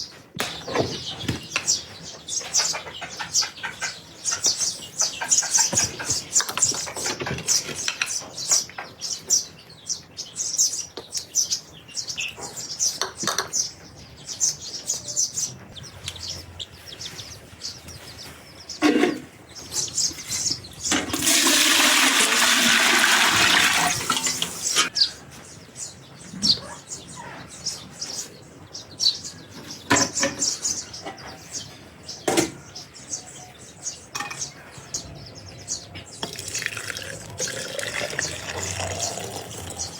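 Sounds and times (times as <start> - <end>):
small birds chirping: 0.0 - 21.9, 23.6 - 39.9.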